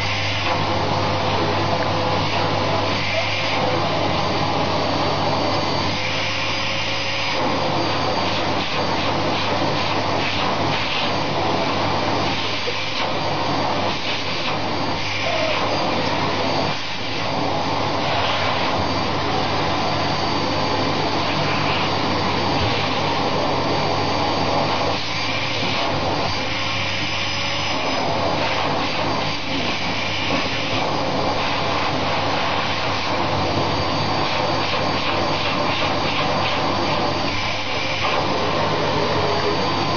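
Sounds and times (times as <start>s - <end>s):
vacuum cleaner suction: 0.0s - 39.9s.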